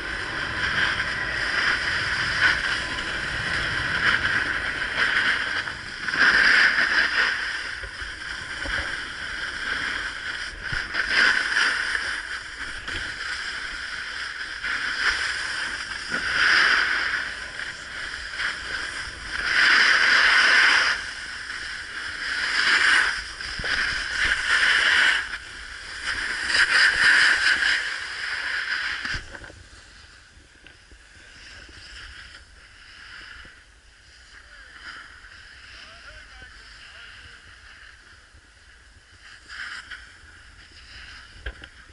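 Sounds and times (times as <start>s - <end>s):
snowboard scraping on snow: 0.0s - 41.9s.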